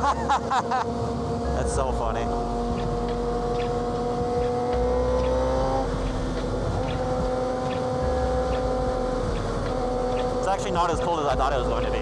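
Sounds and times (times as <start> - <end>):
motorcycle engine cruising: 0.0 - 12.0
wind noise on microphone: 0.0 - 12.0.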